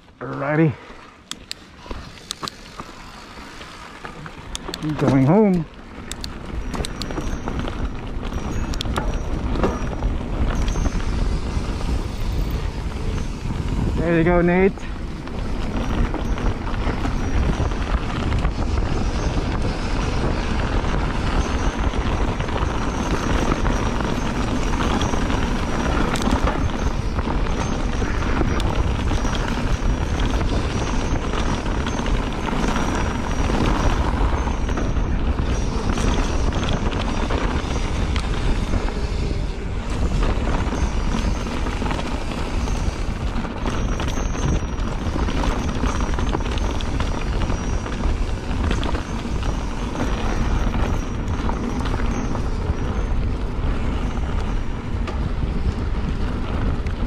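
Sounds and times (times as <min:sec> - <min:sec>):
bike rattling: 0:00.0 - 0:57.0
wind buffeting microphone: 0:00.0 - 0:57.0.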